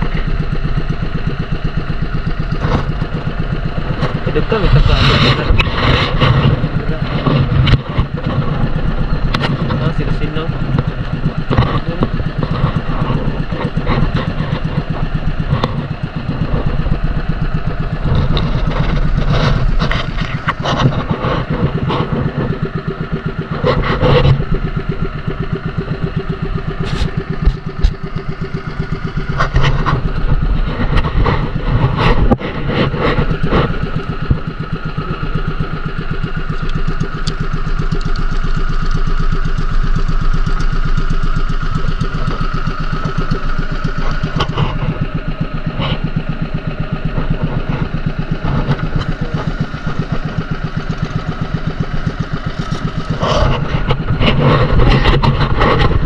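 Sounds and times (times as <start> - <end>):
small boat engine running: 0.0 - 56.0.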